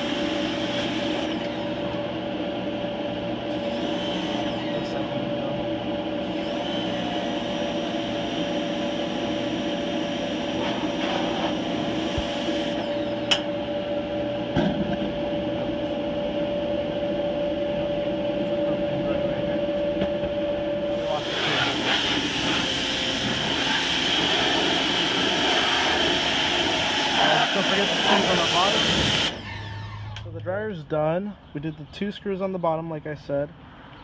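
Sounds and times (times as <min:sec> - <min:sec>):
dryer drum motor humming: 0:00.0 - 0:30.4.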